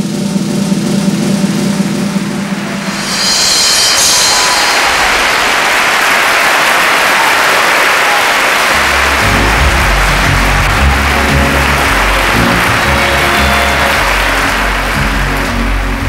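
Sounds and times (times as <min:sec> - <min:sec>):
circus band music: 0:00.7 - 0:16.0
audience applause: 0:01.8 - 0:16.0.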